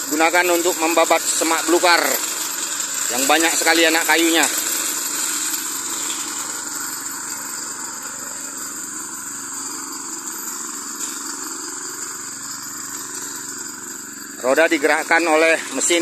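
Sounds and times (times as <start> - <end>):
brush cutter engine running: 0.0 - 16.0.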